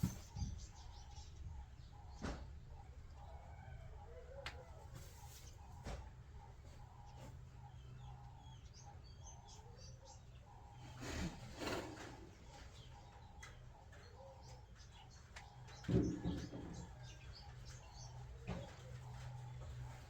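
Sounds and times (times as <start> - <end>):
small birds chirping: 0.0 - 3.5, 5.1 - 20.0.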